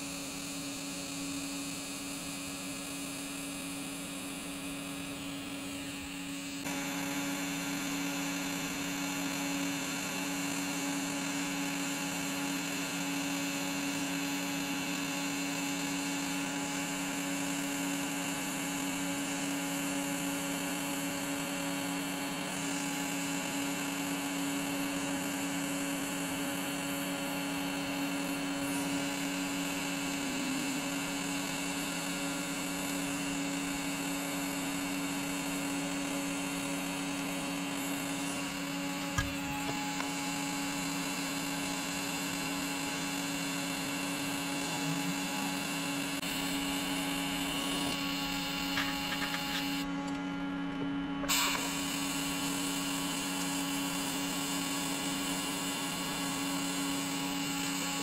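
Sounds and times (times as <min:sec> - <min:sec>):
welding arc hum and hiss: 0:00.0 - 0:58.0.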